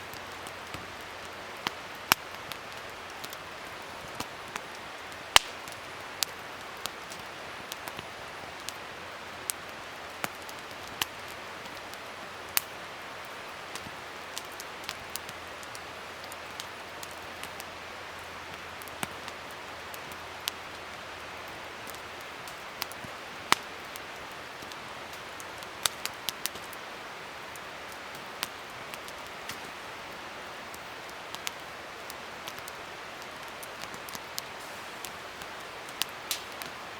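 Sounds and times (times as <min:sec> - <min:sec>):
fire hissing: 0:00.0 - 0:36.9
wood fire popping and crackling: 0:00.0 - 0:36.9.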